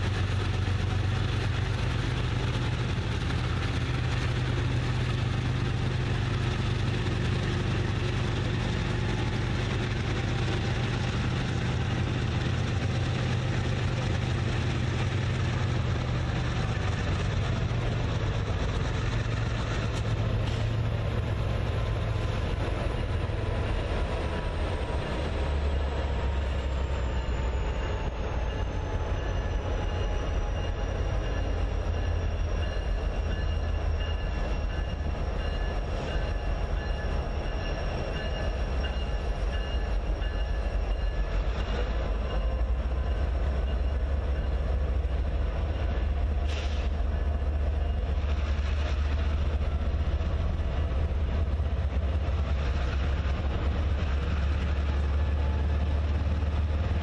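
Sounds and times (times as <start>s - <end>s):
freight cars rolling on rails: 0.0s - 57.0s.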